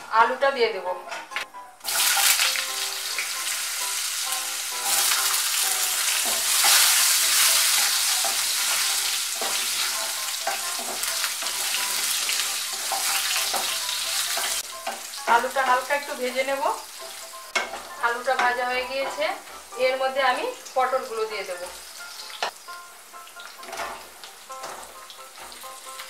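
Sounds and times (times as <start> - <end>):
potatoes sizzling in hot oil: 1.8 - 26.0.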